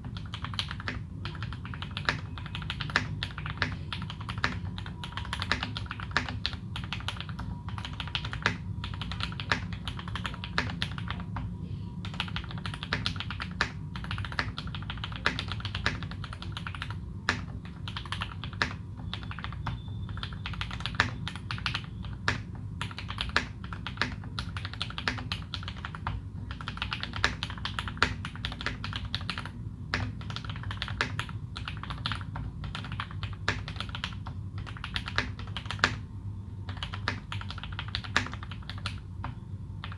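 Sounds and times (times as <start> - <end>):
mechanical keyboard typing: 0.0 - 36.1, 36.7 - 39.9.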